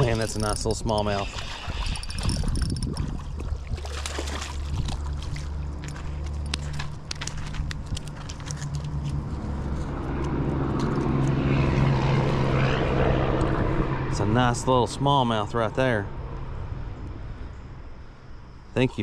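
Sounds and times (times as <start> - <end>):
low engine drone: 0.0 - 18.9.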